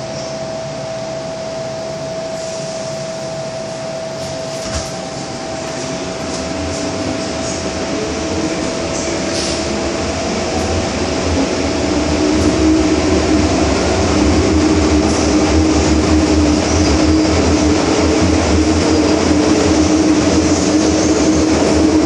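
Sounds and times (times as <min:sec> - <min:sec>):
train equipment hum: 0:00.0 - 0:22.0
train traction whine: 0:00.0 - 0:22.0.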